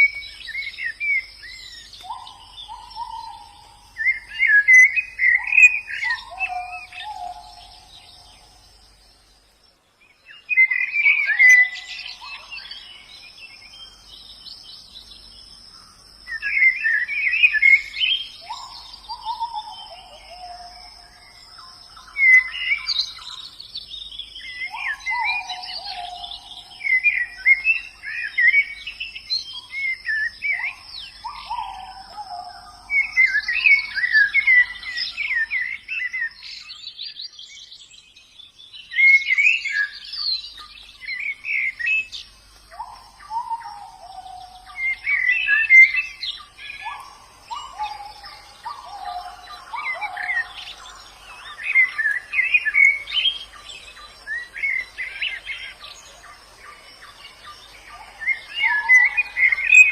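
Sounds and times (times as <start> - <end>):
high twittering bird chirps: 0.0 - 9.0, 10.0 - 15.5, 16.2 - 59.9.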